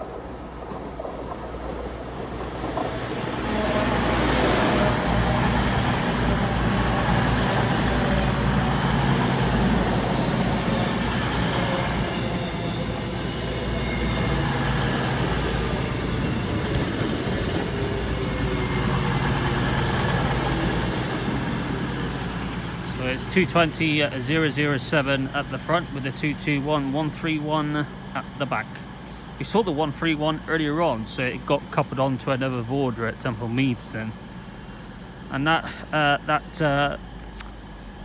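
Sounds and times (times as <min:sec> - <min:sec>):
diesel train engines droning: 0:00.0 - 0:38.0.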